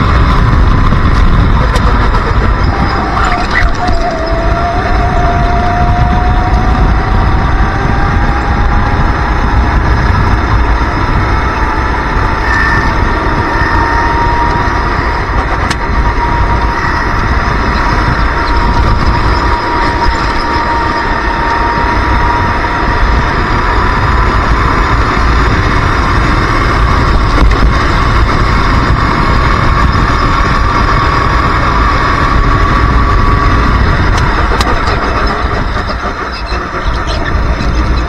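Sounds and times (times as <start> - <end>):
kart engine at high revs: 0.0 - 38.0.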